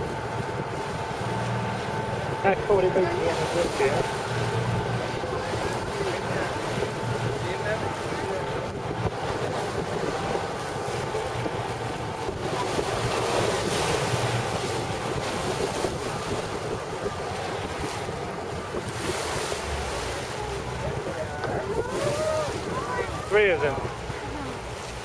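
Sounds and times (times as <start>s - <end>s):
boat engine rumble: 0.0s - 25.0s
water washing alongside boat: 0.0s - 25.0s
wind buffeting microphone: 0.0s - 25.0s.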